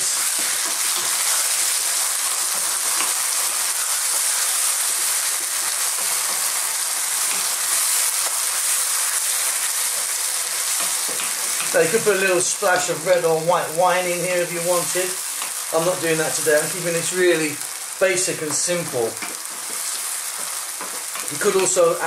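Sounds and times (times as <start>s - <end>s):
food sizzling in a frying pan: 0.0s - 22.0s.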